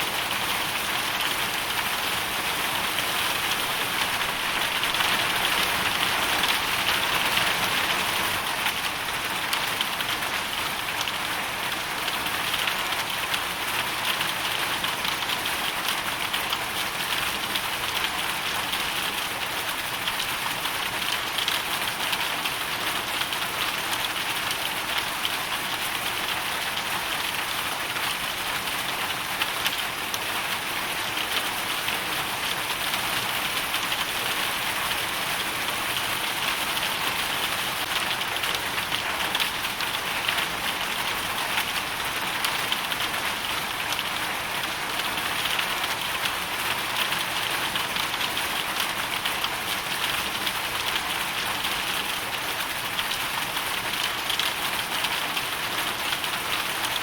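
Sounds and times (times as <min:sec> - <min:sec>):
hail and rain on hard surfaces: 0:00.0 - 0:57.0.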